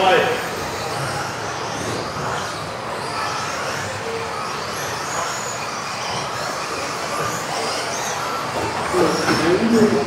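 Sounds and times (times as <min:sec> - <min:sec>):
rc car motors whining: 0:00.0 - 0:10.0.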